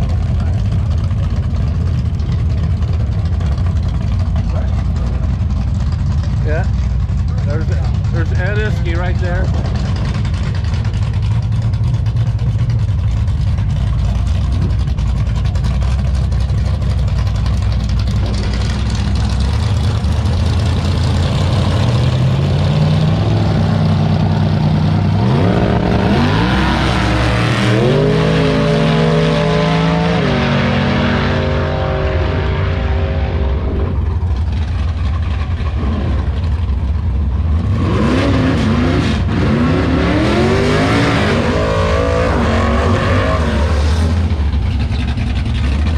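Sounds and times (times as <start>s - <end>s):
car accelerating hard: 0.0s - 45.9s
race car engines idling: 0.0s - 45.9s
engine revving: 6.3s - 45.9s.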